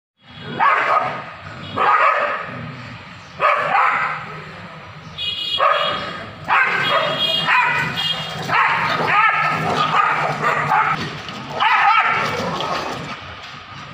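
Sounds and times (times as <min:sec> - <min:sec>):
dogs barking aggressively: 0:00.4 - 0:13.4.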